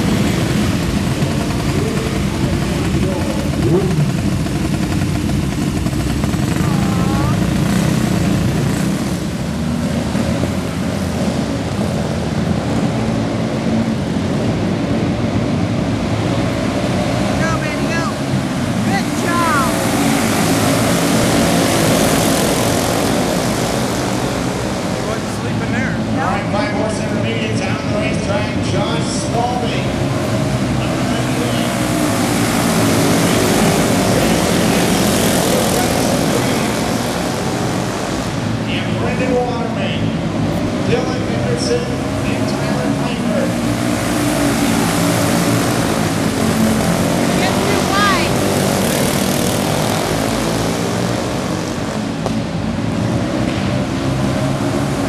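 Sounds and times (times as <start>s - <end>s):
kart engines droning: 0.0s - 55.0s.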